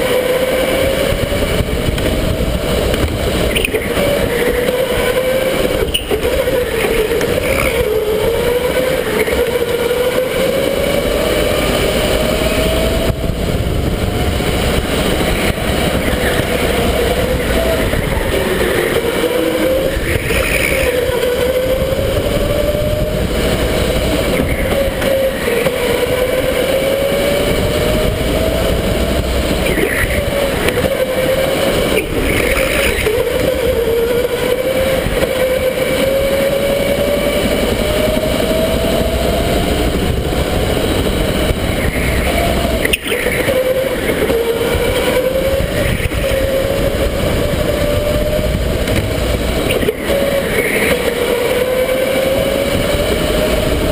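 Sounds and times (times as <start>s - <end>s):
electric motor whining: 0.0s - 53.9s.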